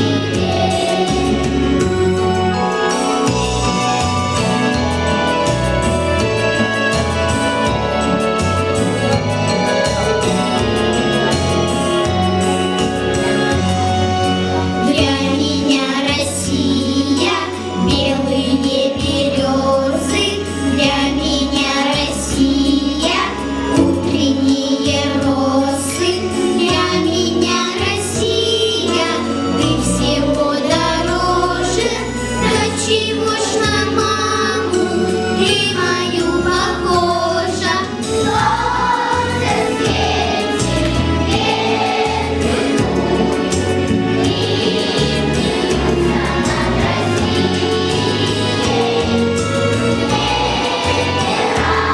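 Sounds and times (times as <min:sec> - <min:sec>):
children's choir singing: 0:00.0 - 0:51.9
instrumental accompaniment with bass: 0:00.0 - 0:51.9.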